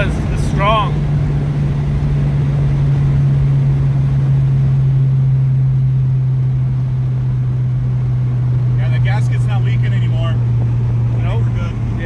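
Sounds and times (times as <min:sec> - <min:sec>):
car engine droning: 0:00.0 - 0:12.0
low road rumble: 0:00.0 - 0:12.0.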